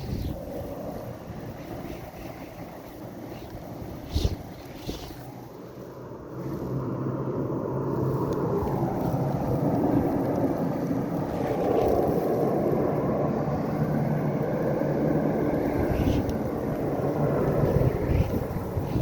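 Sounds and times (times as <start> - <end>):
blizzard wind blowing: 0.0 - 19.0
wind buffeting microphone: 0.0 - 19.0.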